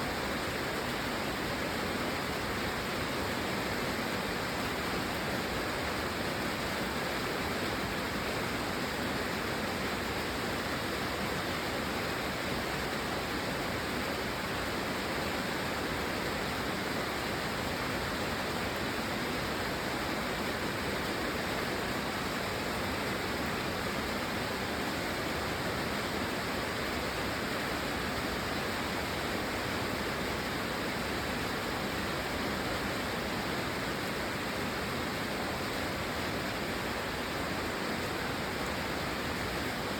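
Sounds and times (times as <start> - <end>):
steady dense rain: 0.0 - 39.9.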